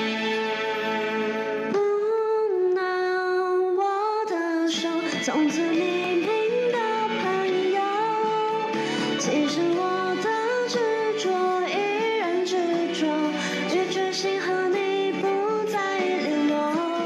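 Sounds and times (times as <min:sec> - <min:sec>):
backing music: 0:00.0 - 0:17.0
woman singing into a microphone: 0:01.6 - 0:17.0.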